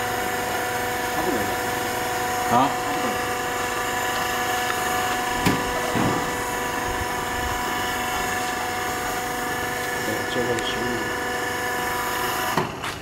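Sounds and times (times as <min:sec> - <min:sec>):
welding machine humming and whining: 0:00.0 - 0:13.0.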